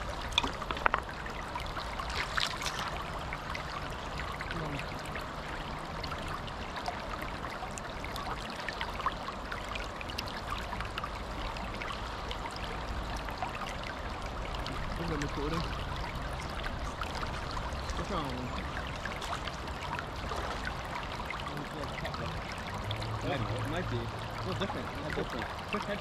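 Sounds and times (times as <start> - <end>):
river water flowing: 0.0 - 26.0
water splashes: 0.0 - 26.0.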